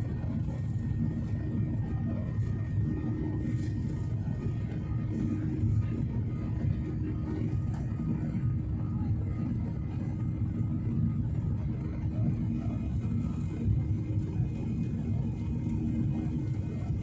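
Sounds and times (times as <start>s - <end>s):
airliner cabin engine rumble: 0.0s - 17.0s
faint steady tones: 0.0s - 17.0s.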